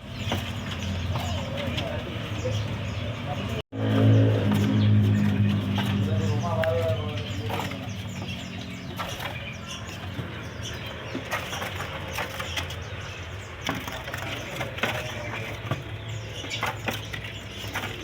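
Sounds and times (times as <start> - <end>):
bird chirps: 0.0 - 18.0
birds fluttering in cages: 0.0 - 18.0.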